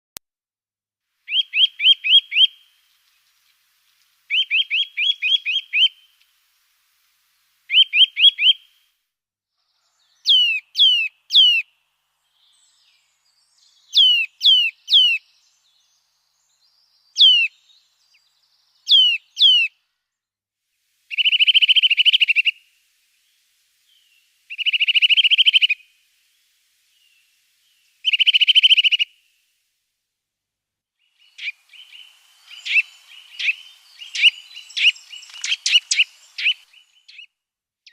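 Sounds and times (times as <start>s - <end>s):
songbird singing: 1.2s - 8.9s, 9.6s - 20.3s, 21.0s - 29.6s, 30.9s - 37.9s.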